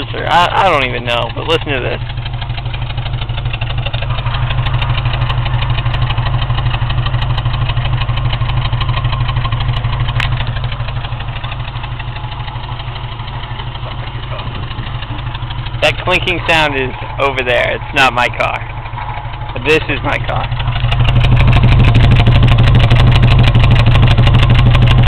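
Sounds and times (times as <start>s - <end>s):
car engine idling choppily: 0.0s - 25.0s.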